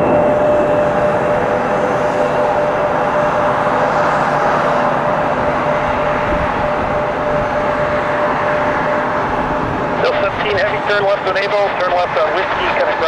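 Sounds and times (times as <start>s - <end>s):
high engine whine: 0.0s - 13.0s
jet engines roaring: 0.0s - 13.0s.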